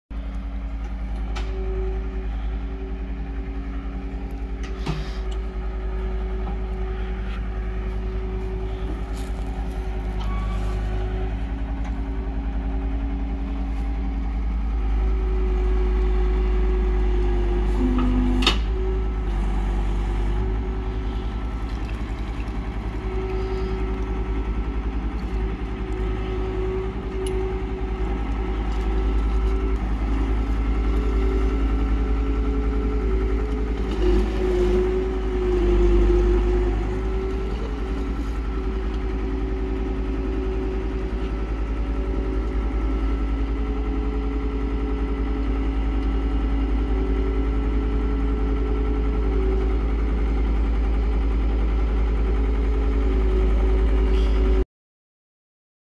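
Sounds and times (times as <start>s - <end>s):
loader engine running under load: 0.1s - 54.6s.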